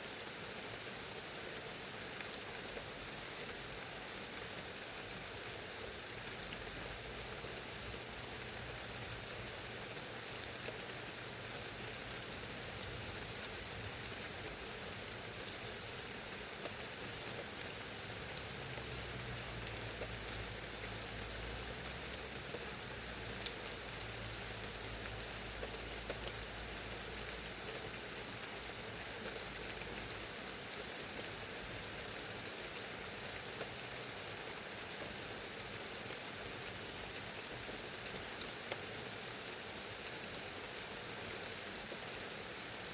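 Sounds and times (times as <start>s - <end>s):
steady rainfall: 0.0s - 42.9s.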